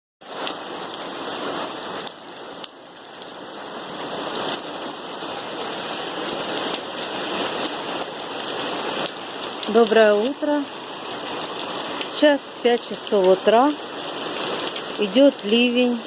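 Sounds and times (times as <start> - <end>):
heavy rain hiss: 0.2 - 16.0.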